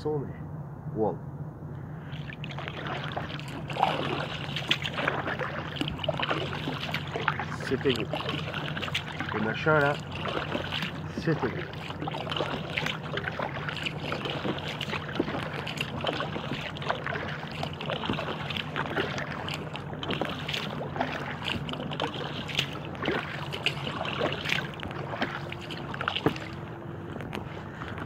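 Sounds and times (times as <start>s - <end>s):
steady low hum: 0.0s - 28.0s
water lapping and dripping: 1.8s - 28.0s.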